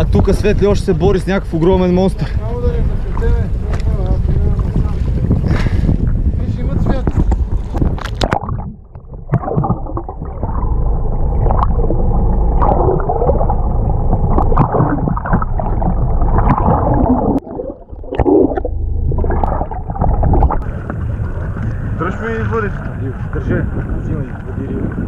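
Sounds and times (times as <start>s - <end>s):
water rushing and gurgling underwater: 0.0s - 25.0s.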